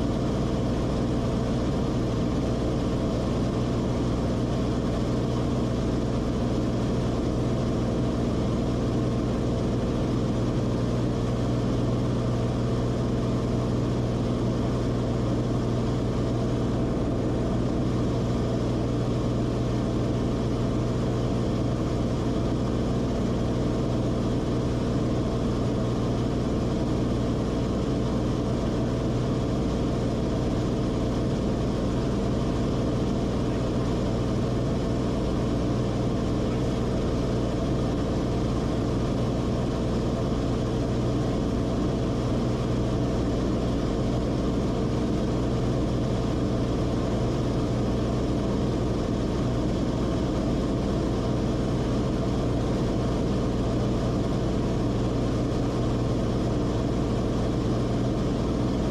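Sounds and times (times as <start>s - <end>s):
aircraft engine and propeller drone: 0.0s - 58.9s.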